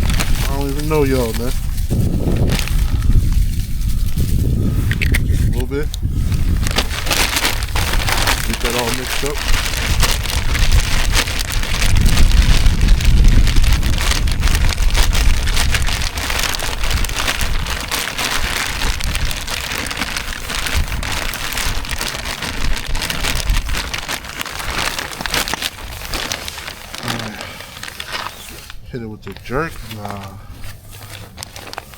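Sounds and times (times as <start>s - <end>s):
handling rumble: 0.0s - 31.9s.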